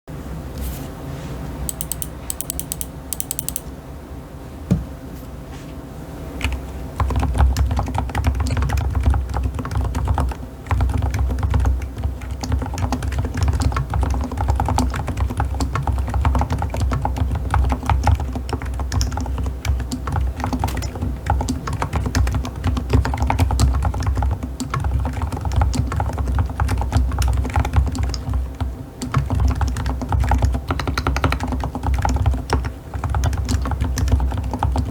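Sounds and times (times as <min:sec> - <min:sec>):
mechanical keyboard typing: 0:01.7 - 0:03.6, 0:06.4 - 0:34.9.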